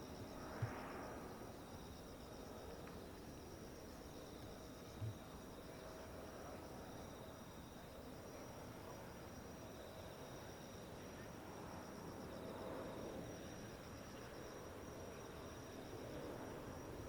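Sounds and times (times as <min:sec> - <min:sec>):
insects chirping in trills: 0:00.0 - 0:17.0.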